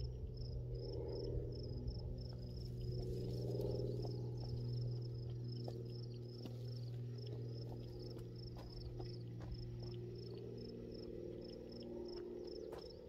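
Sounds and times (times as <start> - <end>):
crickets chirping: 0.0 - 13.0
steady low hum: 0.0 - 13.0.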